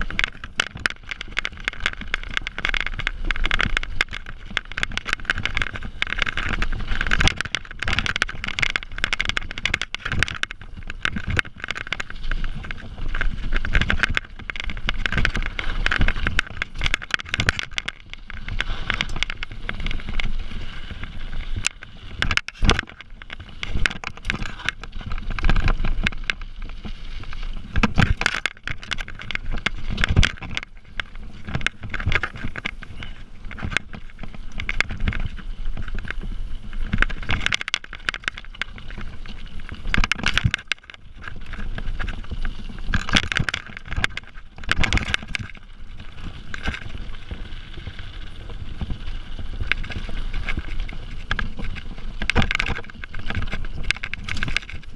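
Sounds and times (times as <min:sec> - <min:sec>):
bike rattling and knocking: 0:00.0 - 0:54.9
tyres rolling over dirt and stones: 0:00.0 - 0:54.9
wind rumble on microphone: 0:00.0 - 0:54.9.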